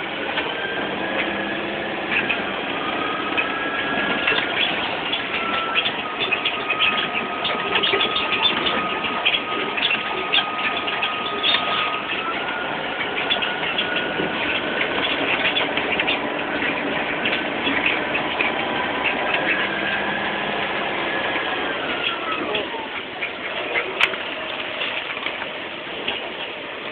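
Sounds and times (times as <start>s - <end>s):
frogs clicking calls: 0.0s - 26.9s.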